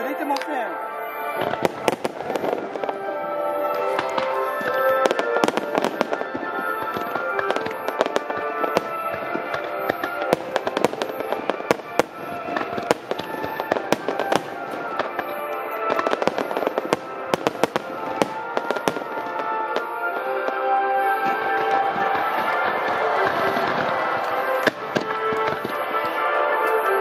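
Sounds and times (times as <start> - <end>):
fireworks bursting and crackling: 0.0 - 27.0
music playing: 0.0 - 27.0.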